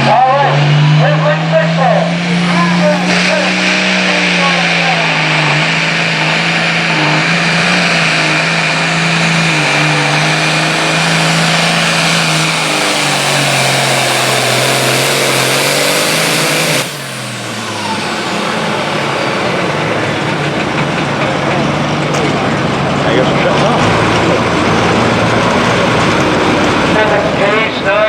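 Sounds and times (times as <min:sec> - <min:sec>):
diesel tractor engine under load: 0:00.0 - 0:28.0
engine whine winding down: 0:00.0 - 0:28.0.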